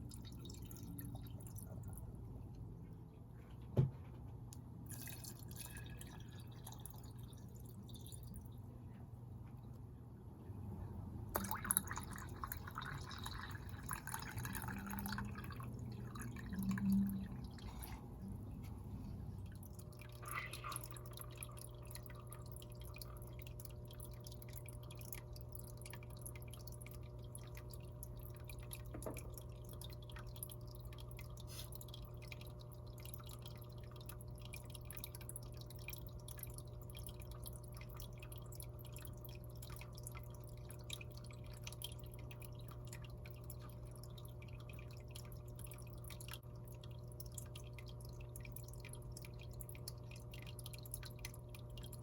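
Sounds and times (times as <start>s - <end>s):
aquarium water dripping and bubbling: 0.0s - 52.0s
steady low hum: 0.0s - 52.0s.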